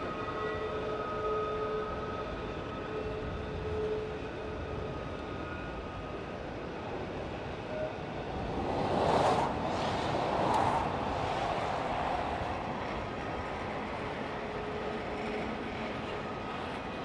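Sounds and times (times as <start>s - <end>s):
train wheels rumbling on track: 1.8s - 17.0s.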